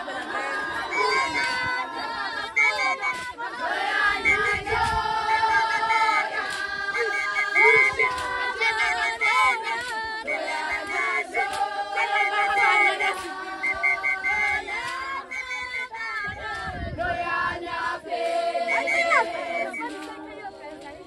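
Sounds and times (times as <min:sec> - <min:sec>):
women singing in a group: 0:00.0 - 0:21.0.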